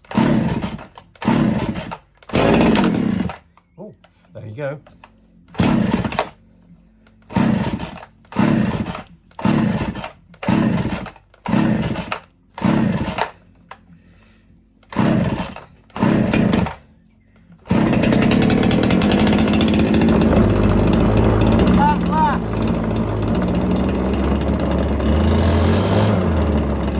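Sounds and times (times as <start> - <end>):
chainsaw engine running: 0.0 - 3.5, 5.5 - 6.4, 7.1 - 13.4, 14.8 - 16.9, 17.6 - 26.9
chainsaw recoil starter pulls: 0.0 - 3.7, 4.9 - 6.5, 7.1 - 13.8, 14.8 - 16.8, 17.6 - 26.9.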